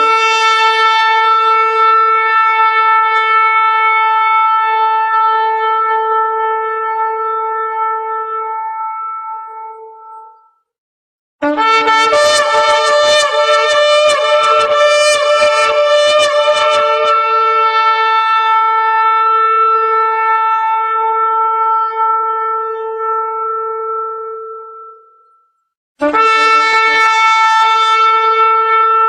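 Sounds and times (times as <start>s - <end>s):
shofar blast: 0.0s - 9.4s, 11.4s - 25.1s, 26.0s - 29.0s.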